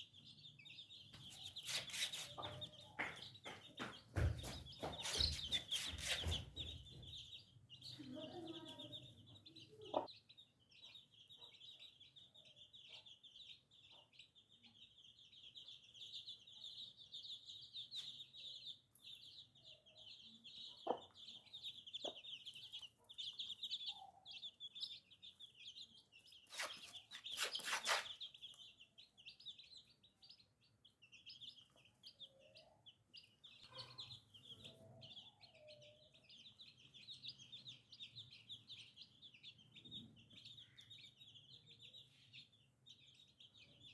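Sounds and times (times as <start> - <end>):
baby chicks peeping: 0.0 - 43.9.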